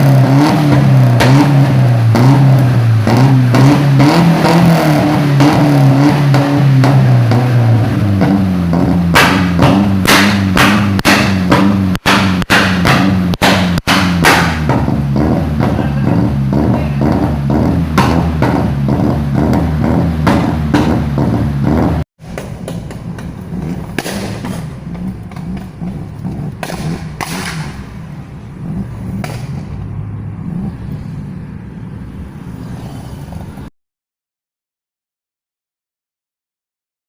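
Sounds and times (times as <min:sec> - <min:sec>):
car engine rumbling: 0:00.0 - 0:33.7.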